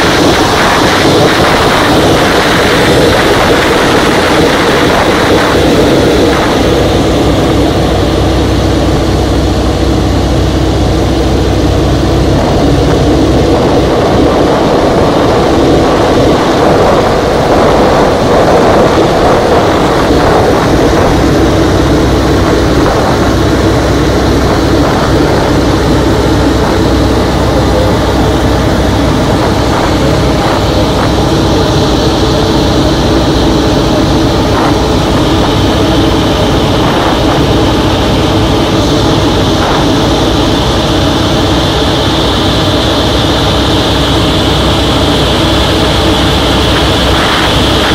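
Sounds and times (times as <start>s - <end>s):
radial engine and propeller: 0.0s - 47.9s.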